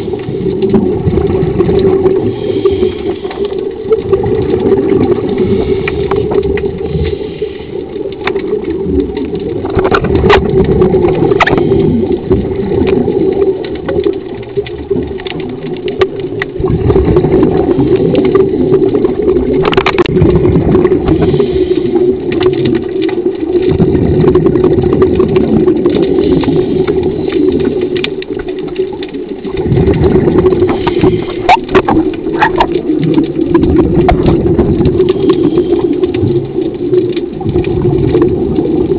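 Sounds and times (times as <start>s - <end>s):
underwater motor humming: 0.0s - 38.9s.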